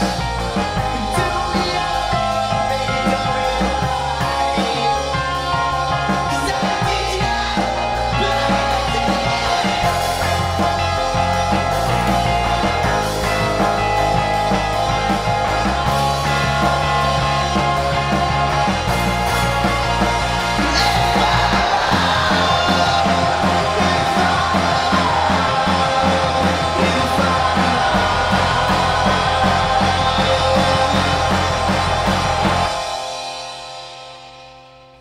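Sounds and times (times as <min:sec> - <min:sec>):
steady drum beat: 0:00.0 - 0:34.0
rock music with guitar: 0:00.0 - 0:35.0.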